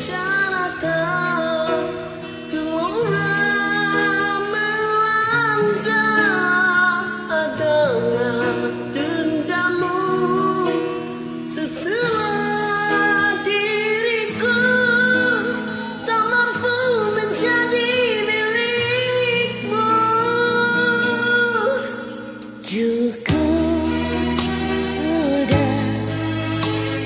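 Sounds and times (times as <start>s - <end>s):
woman singing: 0.0s - 26.4s
instrumental backing track: 0.0s - 27.0s.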